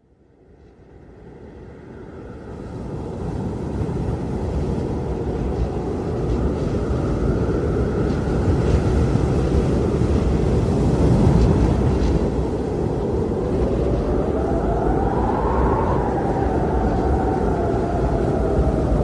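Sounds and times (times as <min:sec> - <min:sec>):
blizzard wind roaring: 0:00.0 - 0:19.0.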